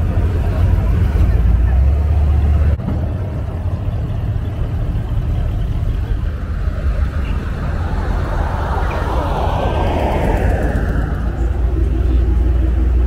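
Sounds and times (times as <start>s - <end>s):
cars driving slowly past: 0.0s - 13.0s.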